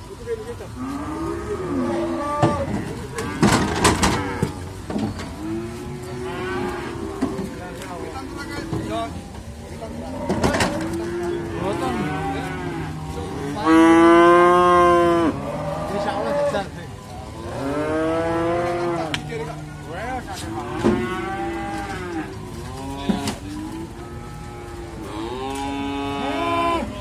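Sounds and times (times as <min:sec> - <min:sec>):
bulls mooing: 0:00.6 - 0:27.0.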